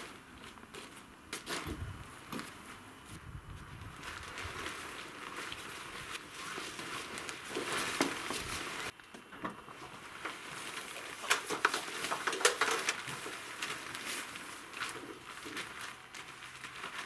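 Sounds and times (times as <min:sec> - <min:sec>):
tent fabric rustling and crinkling: 0:00.0 - 0:09.0, 0:09.7 - 0:17.0.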